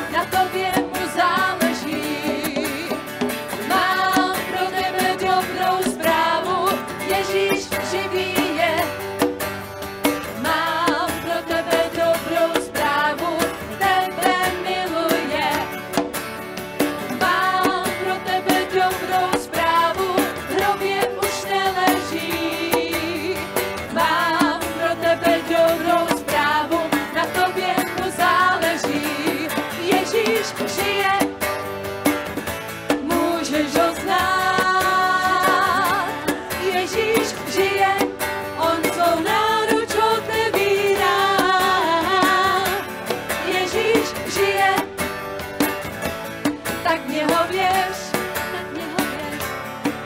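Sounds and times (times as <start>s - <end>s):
person singing with vibrato: 0.0s - 9.1s, 10.4s - 15.9s, 17.2s - 31.4s, 33.0s - 45.0s, 46.8s - 49.6s
band accompaniment: 0.0s - 50.0s.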